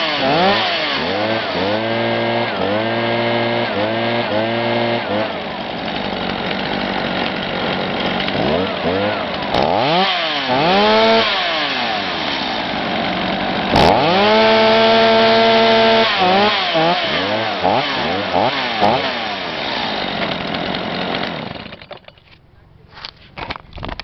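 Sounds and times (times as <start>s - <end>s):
small two-stroke engine revving: 0.0s - 21.9s.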